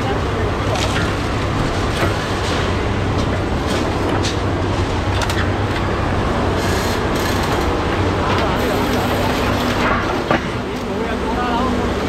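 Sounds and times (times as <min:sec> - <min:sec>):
diesel excavator engine humming: 0:00.0 - 0:12.0.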